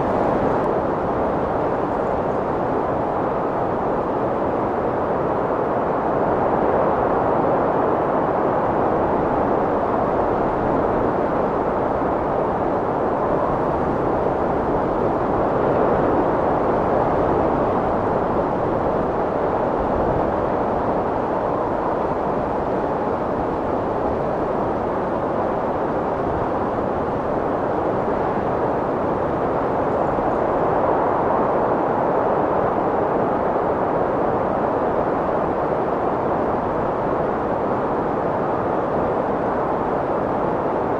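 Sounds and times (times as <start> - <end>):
strong wind blowing: 0.0 - 40.9.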